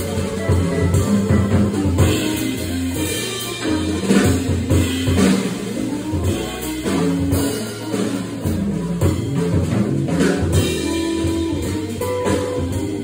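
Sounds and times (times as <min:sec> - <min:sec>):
drums and cymbals: 0:00.0 - 0:13.0
jazz trio playing live: 0:00.0 - 0:13.0.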